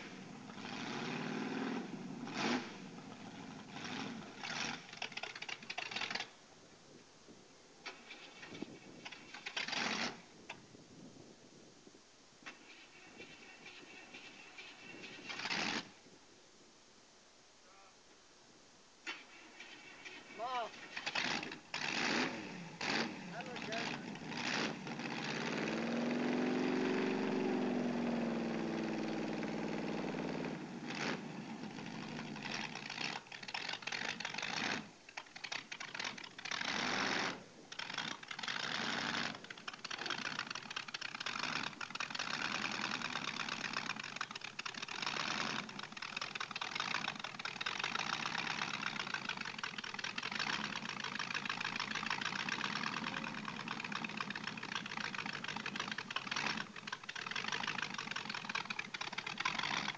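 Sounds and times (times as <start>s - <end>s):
dragster engine revving and popping: 0.0s - 6.3s, 7.8s - 10.6s, 12.4s - 15.9s, 19.0s - 59.9s.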